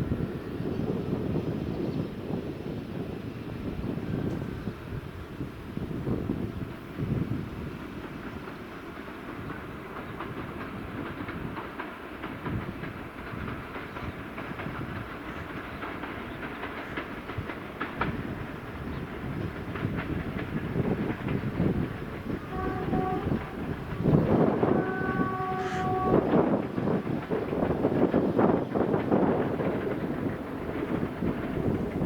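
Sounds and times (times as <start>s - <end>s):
train wheels clicking over rail joints: 0.1s - 32.0s.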